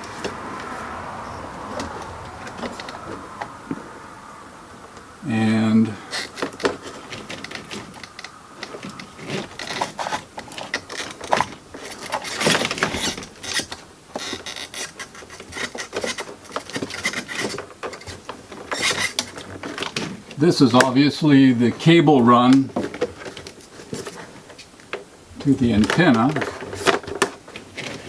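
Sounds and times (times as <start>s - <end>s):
cables rustling and scraping: 0.0s - 28.0s.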